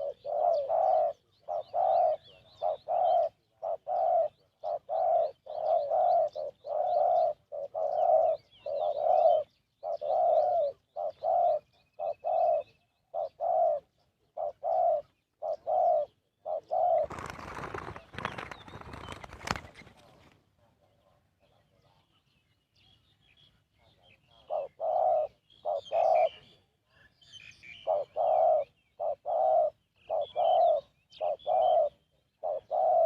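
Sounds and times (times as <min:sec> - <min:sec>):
dove cooing: 0:00.0 - 0:22.0, 0:23.9 - 0:27.0, 0:27.6 - 0:33.0.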